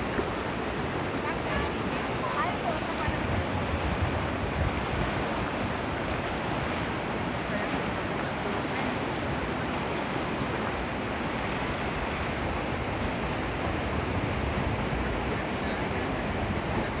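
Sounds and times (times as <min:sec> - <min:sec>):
waterfall and river rushing: 0:00.0 - 0:17.0.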